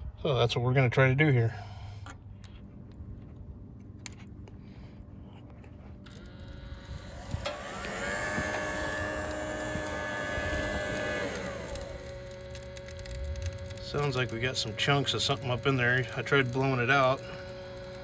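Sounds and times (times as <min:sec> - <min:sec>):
heater blower motor whining: 0:02.2 - 0:18.0.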